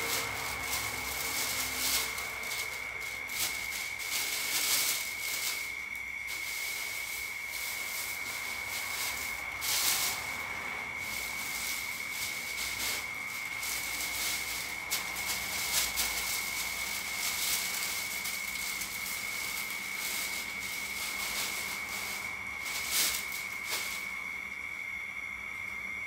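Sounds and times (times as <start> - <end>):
hot oil sizzling: 0.0 - 24.3
high whine: 0.0 - 26.0.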